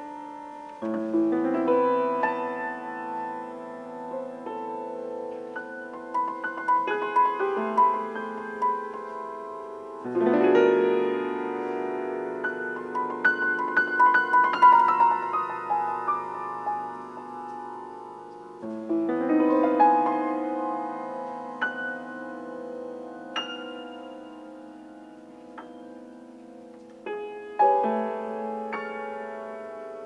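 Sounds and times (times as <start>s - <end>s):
slow solo piano: 0.0s - 30.0s.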